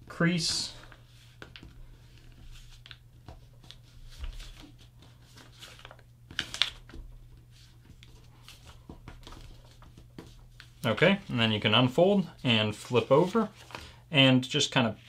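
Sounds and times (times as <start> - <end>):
paper folding and crinkling: 0.7 - 14.0.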